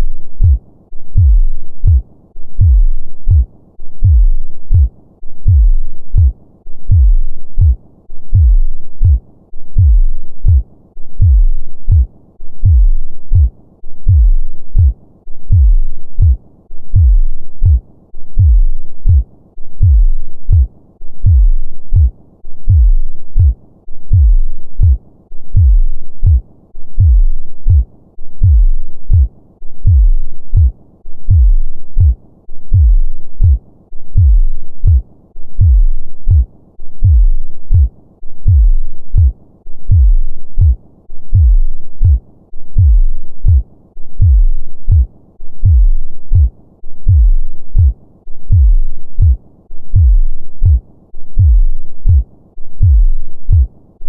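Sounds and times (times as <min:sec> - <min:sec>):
heartbeat lub-dub thumps: 0:00.0 - 0:53.8.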